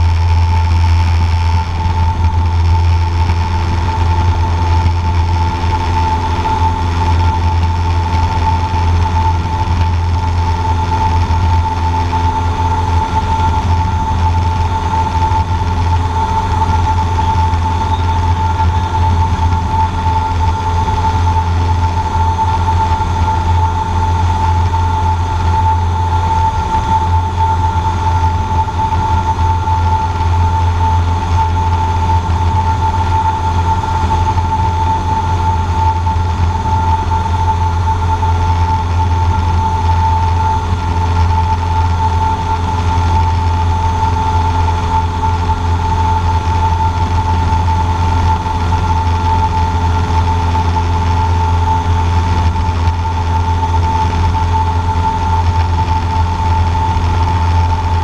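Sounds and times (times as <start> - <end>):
propeller plane engine drone: 0.0 - 58.0
steady high whine: 0.0 - 58.0.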